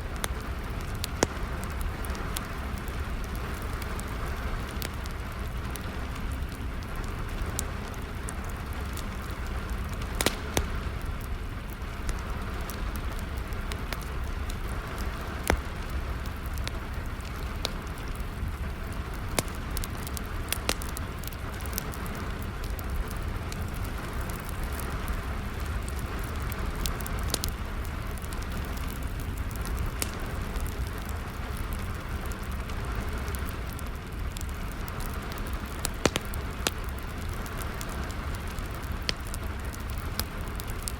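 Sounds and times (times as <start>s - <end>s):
rain pattering: 0.0s - 40.9s
wood fire crackling and popping: 0.0s - 40.9s.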